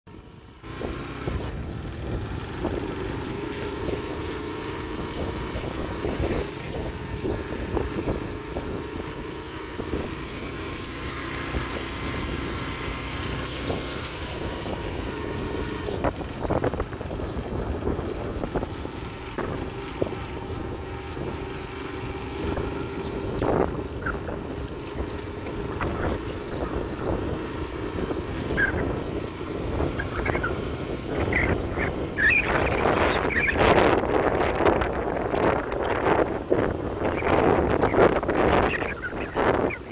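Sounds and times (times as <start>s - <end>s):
motorcycle engine running: 0.1s - 39.9s
wind buffeting microphone: 0.2s - 39.9s.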